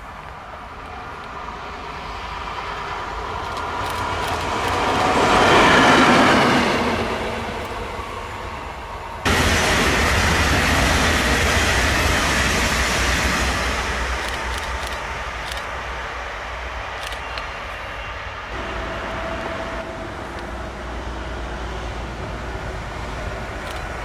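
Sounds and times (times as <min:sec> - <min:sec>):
train coaches rumbling by: 0:00.0 - 0:24.0
train wheels rushing on rails: 0:00.0 - 0:24.0.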